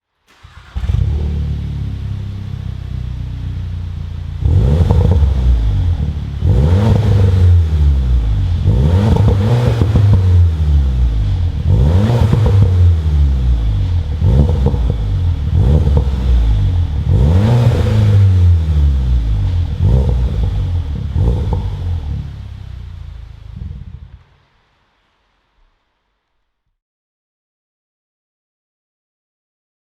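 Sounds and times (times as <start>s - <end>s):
car engine revving and idling: 0.3s - 24.4s.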